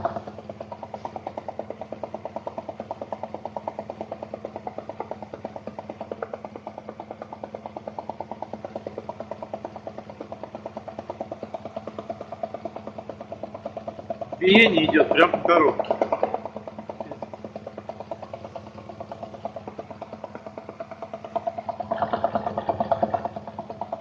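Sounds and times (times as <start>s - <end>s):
rapid drivetrain knocking: 0.0s - 24.0s.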